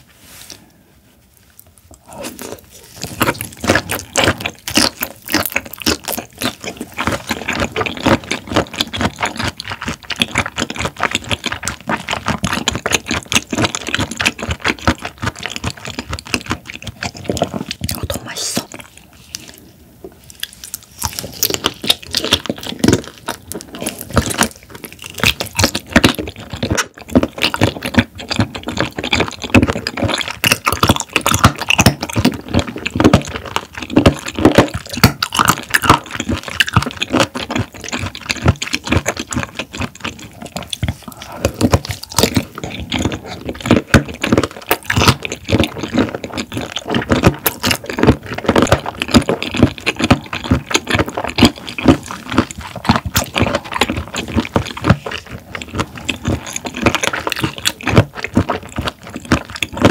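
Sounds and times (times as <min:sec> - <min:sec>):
chewing shrimp: 0:01.4 - 0:59.9
mouth clicks and smacks: 0:01.5 - 0:59.9.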